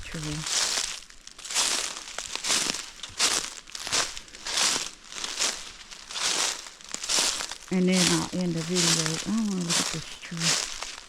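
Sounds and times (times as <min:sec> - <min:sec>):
footsteps crunching through dry leaves: 0:00.0 - 0:11.0.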